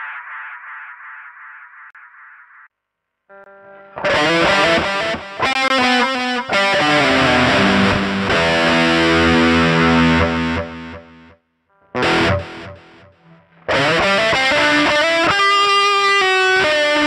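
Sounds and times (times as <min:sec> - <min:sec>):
overdriven electric guitar with delay: 0:03.3 - 0:17.0.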